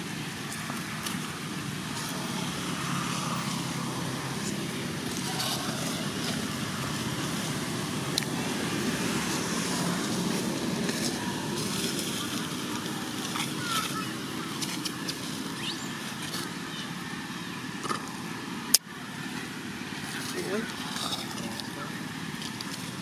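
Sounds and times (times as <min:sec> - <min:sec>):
distant motor traffic rumble: 0:00.0 - 0:23.0.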